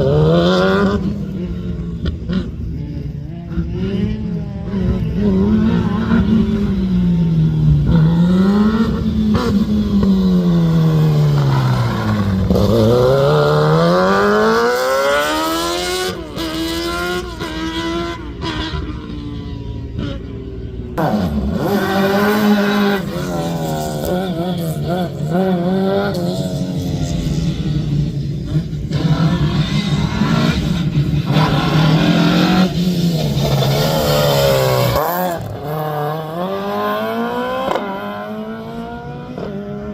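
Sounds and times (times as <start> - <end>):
rally car engine accelerating: 0.0 - 39.9.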